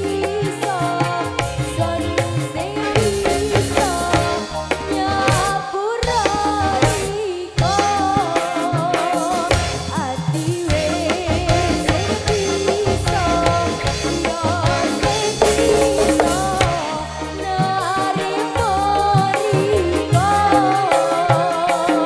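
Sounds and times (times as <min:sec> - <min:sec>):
live band music with drums: 0:00.0 - 0:22.0
woman singing into a microphone: 0:00.0 - 0:22.0.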